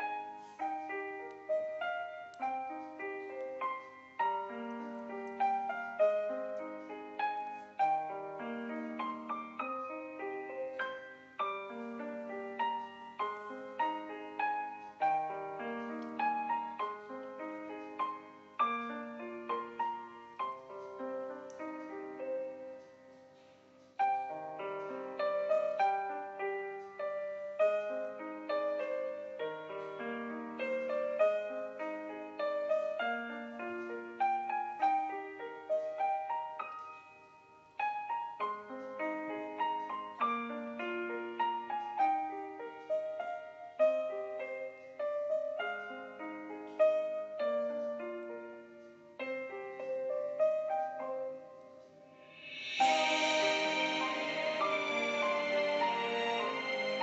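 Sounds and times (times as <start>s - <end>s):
slow solo piano melody: 0.0s - 57.0s.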